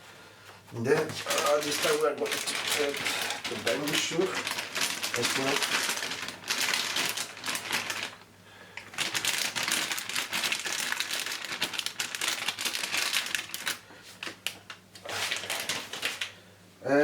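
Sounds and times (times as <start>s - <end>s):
packaging crinkling and rustling: 0.9s - 16.4s.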